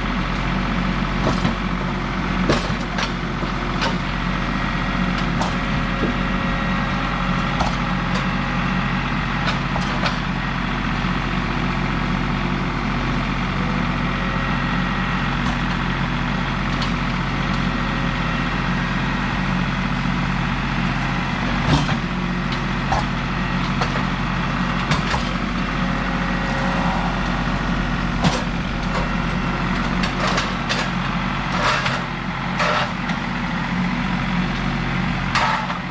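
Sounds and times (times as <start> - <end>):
engine idling: 0.0 - 35.9.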